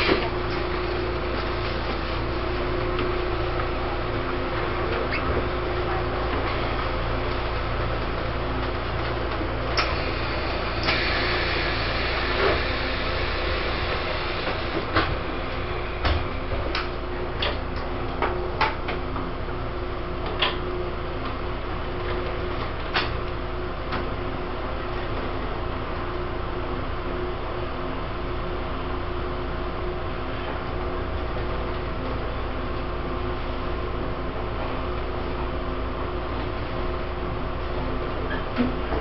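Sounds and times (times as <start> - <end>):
train carriage rumble and hum: 0.0 - 39.0.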